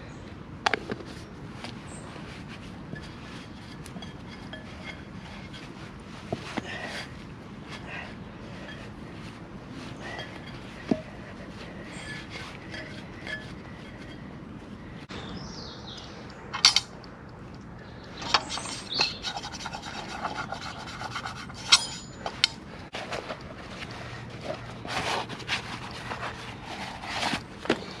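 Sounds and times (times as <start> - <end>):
rubbing and scraping: 0.8 - 15.1, 18.2 - 28.0.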